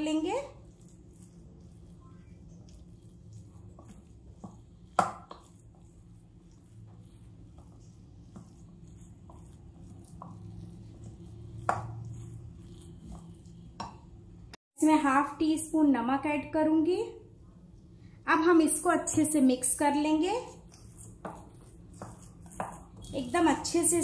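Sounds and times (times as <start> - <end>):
spoon mashing in glass bowl: 0.0 - 14.4, 19.0 - 24.0.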